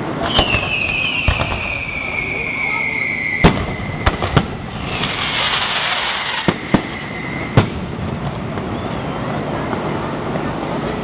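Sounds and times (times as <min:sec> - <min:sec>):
fireworks bangs: 0:00.0 - 0:10.4
hissing crackle: 0:00.2 - 0:09.8.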